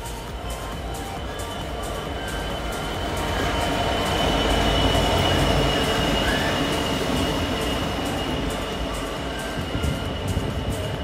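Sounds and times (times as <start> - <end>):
diesel locomotive engine rumble: 0.0 - 11.0
high-pitched squeal: 0.0 - 11.0.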